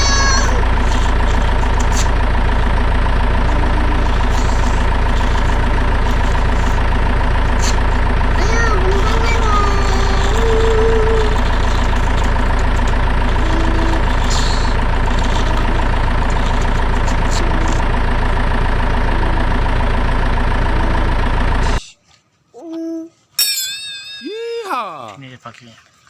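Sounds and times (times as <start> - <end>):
heavy truck engine idling: 0.0 - 21.8.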